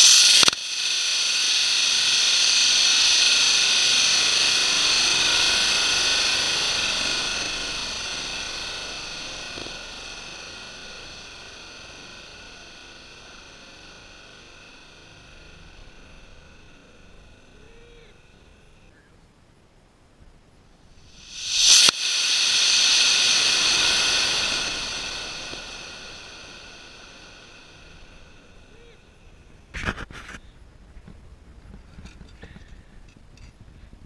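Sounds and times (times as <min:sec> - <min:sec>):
rocket motor rushing hiss: 0:00.0 - 0:18.9, 0:20.8 - 0:30.4.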